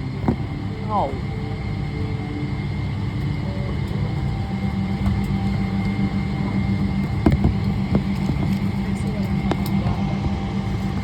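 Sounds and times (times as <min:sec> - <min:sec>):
airliner cabin rumble: 0:00.0 - 0:11.0
faint high whine: 0:00.0 - 0:11.0.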